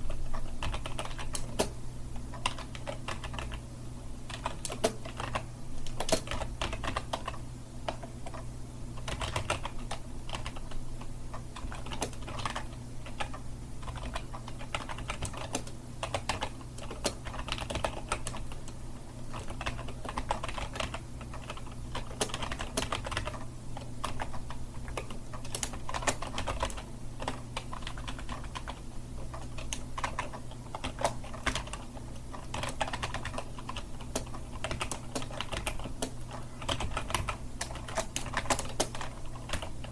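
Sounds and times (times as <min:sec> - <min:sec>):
faint low hum: 0:00.0 - 0:39.9
typing on keyboard: 0:00.2 - 0:01.7, 0:02.3 - 0:03.6, 0:04.3 - 0:08.4, 0:09.0 - 0:39.9.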